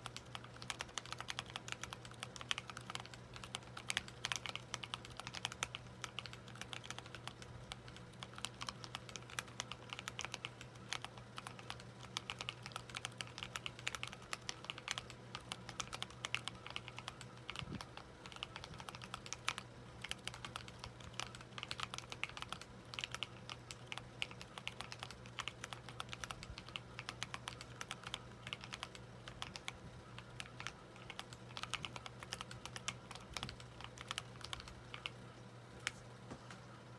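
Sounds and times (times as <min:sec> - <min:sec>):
mechanical keyboard typing: 0:00.0 - 0:35.2
faint low hum: 0:00.0 - 0:36.9.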